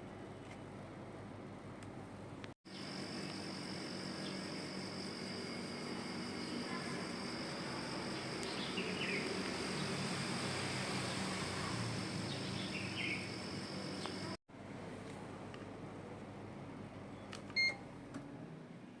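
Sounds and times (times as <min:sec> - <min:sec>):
air conditioner fan and motor hum: 0:00.0 - 0:19.0.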